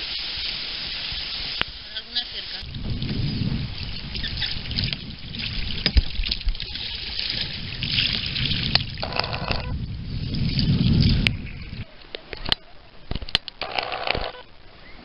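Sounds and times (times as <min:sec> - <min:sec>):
wind rumble on microphone: 0:00.5 - 0:13.5.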